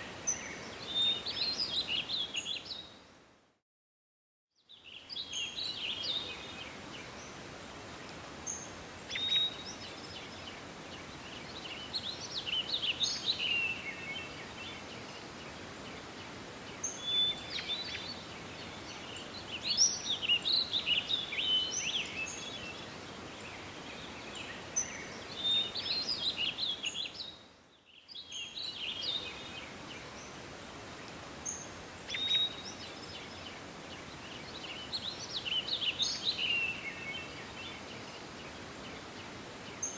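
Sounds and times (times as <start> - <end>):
songbirds chirping and singing: 0.0 - 3.0, 8.0 - 39.9
steady outdoor hiss: 0.0 - 3.6, 4.6 - 39.9.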